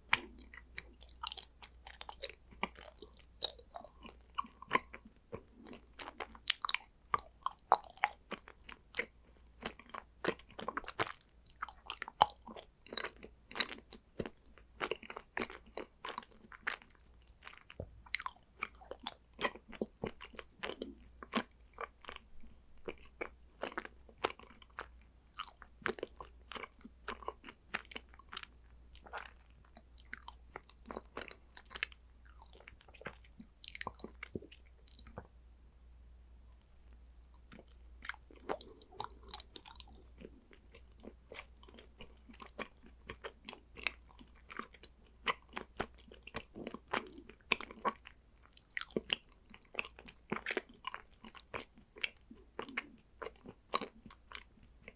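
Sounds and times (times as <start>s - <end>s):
person chewing and crunching chocolate: 0.0s - 35.3s, 36.6s - 54.9s.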